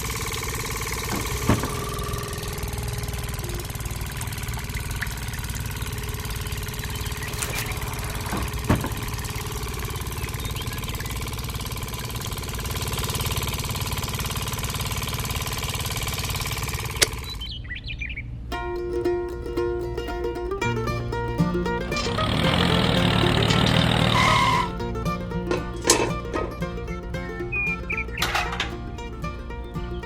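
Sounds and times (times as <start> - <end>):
small engine idling: 0.0 - 17.7, 18.6 - 30.0.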